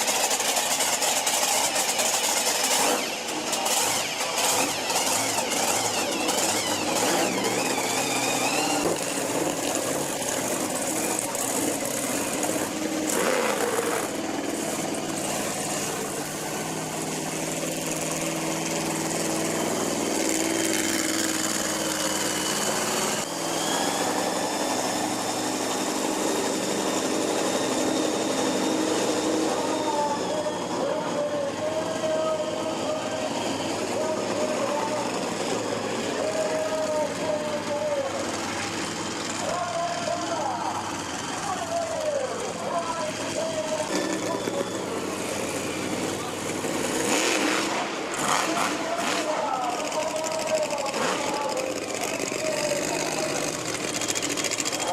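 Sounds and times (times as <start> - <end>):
truck engines revving: 0.0 - 54.9.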